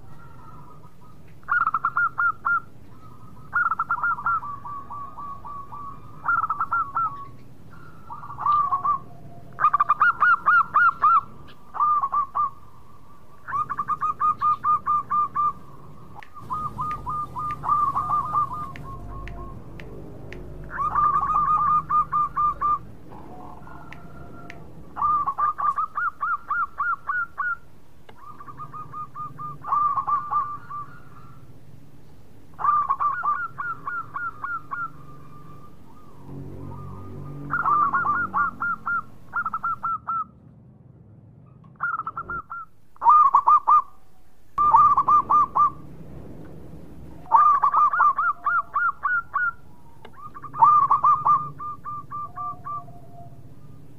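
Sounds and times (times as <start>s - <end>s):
dove cooing: 0.0s - 40.4s, 41.4s - 53.9s.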